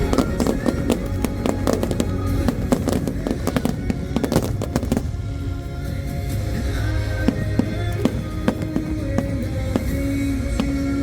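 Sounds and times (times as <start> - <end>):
fireworks bursting: 0.0 - 11.0
music: 0.0 - 11.0.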